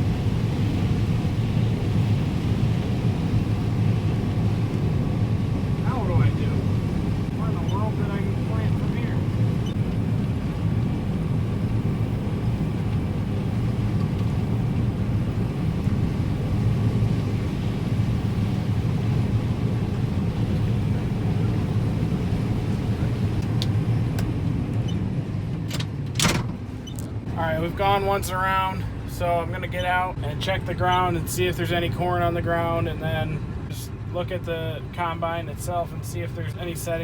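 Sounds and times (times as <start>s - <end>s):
combine harvester droning: 0.0s - 37.0s.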